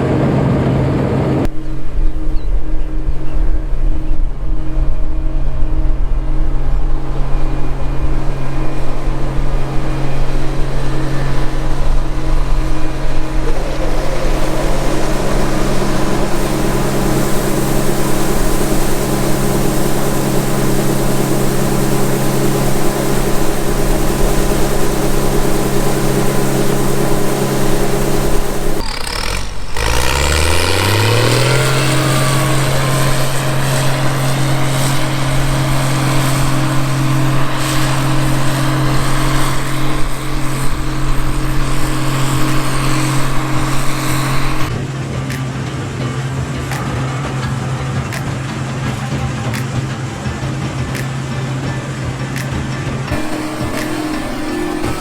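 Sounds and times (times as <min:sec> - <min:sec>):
combine harvester engine drone: 0:00.0 - 0:55.0
rushing mechanical noise: 0:00.0 - 0:55.0.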